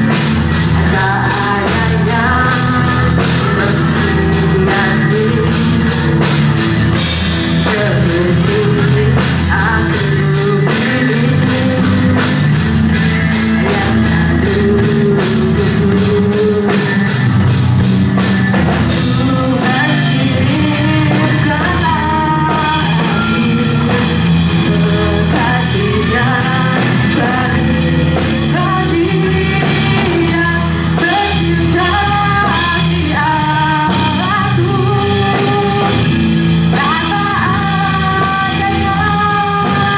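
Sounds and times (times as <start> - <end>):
bass guitar: 0.0 - 39.9
drum kit beat: 0.0 - 39.9
electric guitar: 0.0 - 39.9
person singing: 0.0 - 39.9.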